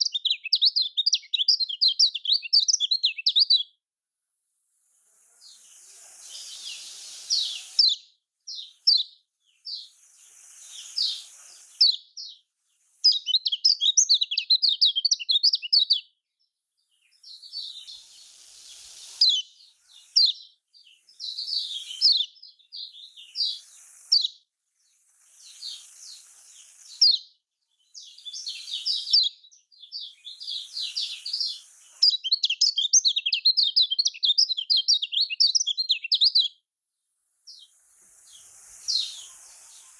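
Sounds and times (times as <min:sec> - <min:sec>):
bird chirping and twittering: 0:00.0 - 0:03.8, 0:05.4 - 0:16.2, 0:16.8 - 0:36.6, 0:37.5 - 0:39.9.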